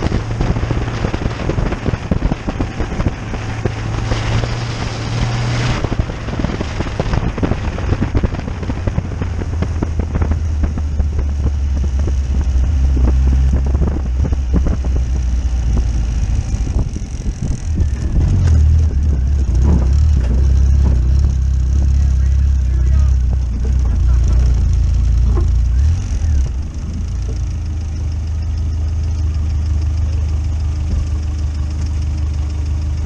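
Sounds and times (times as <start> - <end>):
car engine drone: 0.0 - 33.0.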